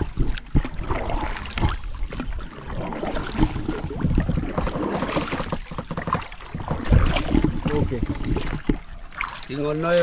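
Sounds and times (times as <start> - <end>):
water sloshing around canoe: 0.0 - 10.0.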